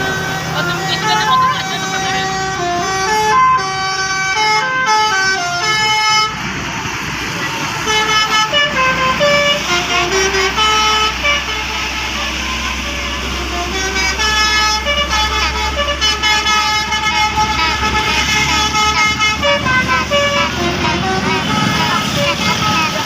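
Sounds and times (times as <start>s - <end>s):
bus musical horn melody: 0.0s - 6.6s, 7.7s - 23.0s
bus engine running: 0.0s - 23.0s.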